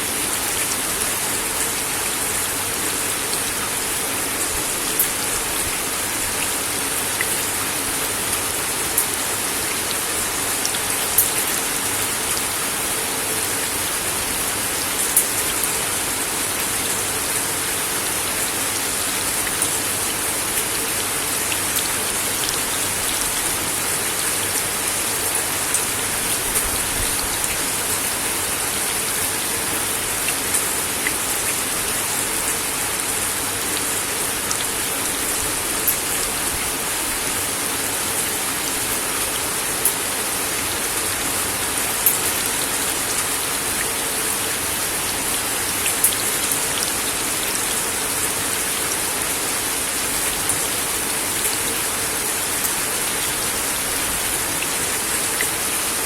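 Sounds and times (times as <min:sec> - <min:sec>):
rain on a wooden deck: 0:00.0 - 0:56.0.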